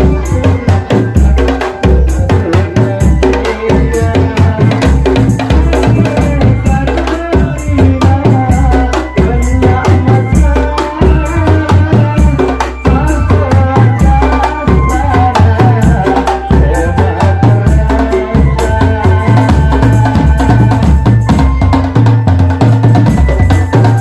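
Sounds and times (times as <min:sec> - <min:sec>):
drum band music: 0:00.0 - 0:24.0.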